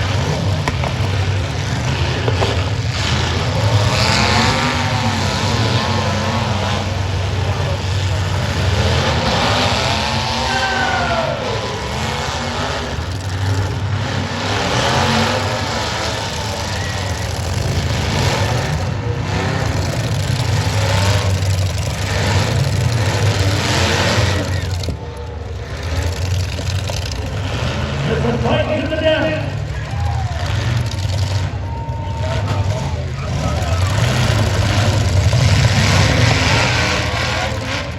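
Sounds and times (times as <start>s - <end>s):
car engines revving: 0.0s - 37.9s.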